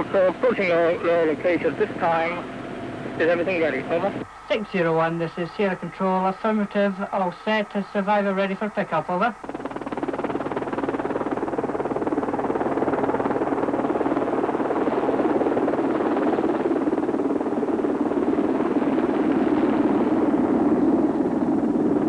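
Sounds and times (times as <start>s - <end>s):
helicopter rotor and turbine noise: 0.0s - 22.0s.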